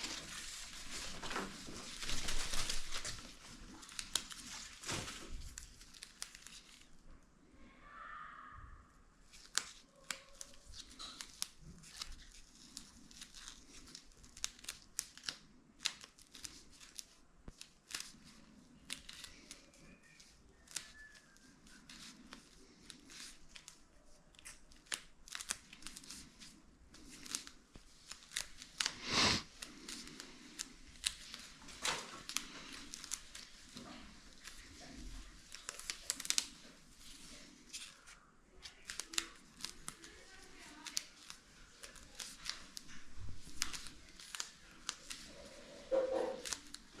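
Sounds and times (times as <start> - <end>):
plastic strip rustling: 0.0 - 7.2, 9.2 - 47.0.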